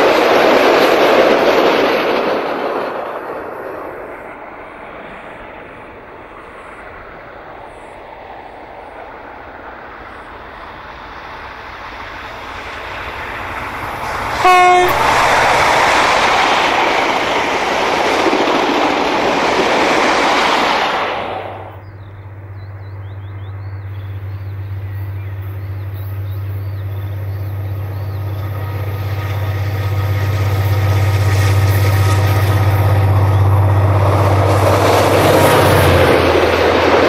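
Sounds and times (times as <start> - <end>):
diesel locomotive engine drone: 0.0 - 37.0
train carriages rushing past: 0.0 - 37.0.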